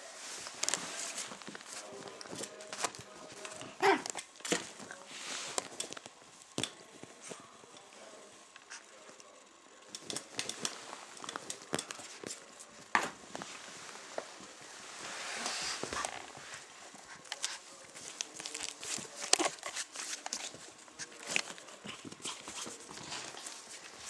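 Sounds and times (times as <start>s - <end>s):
rustling: 0.0s - 9.0s, 9.8s - 24.0s.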